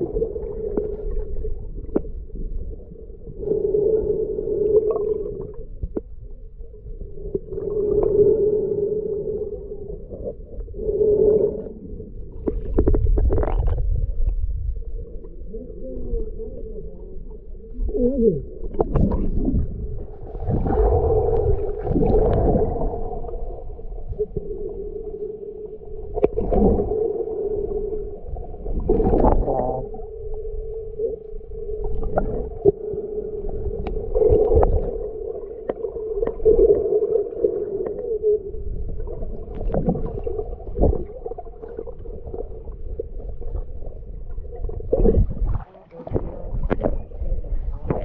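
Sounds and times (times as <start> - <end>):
underwater moving water rumble: 0.0 - 48.0.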